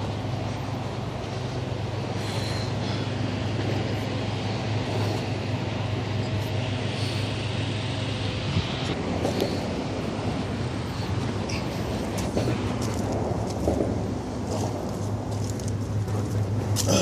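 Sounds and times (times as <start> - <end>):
highway traffic drone: 0.0 - 17.0.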